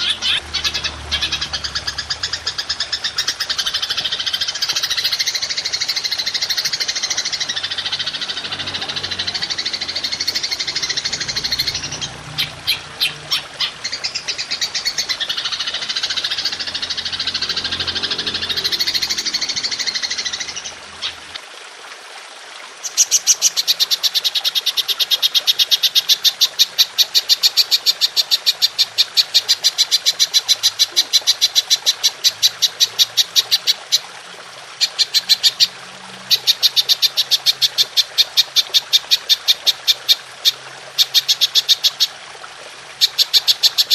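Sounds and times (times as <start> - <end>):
songbird warbling: 0.0 - 21.4, 22.8 - 34.0, 34.8 - 42.2, 43.0 - 43.9.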